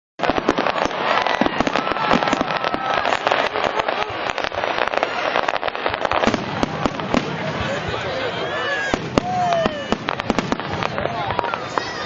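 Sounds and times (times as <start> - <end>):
faint fireworks whistles: 0.2 - 12.0
fireworks crackling and banging: 0.2 - 12.0.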